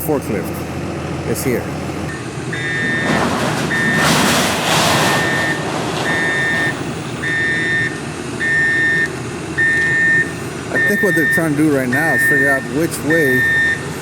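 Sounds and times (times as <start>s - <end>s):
diesel engine running: 0.0s - 14.0s
vehicle reversing alarm beeping: 2.0s - 14.0s.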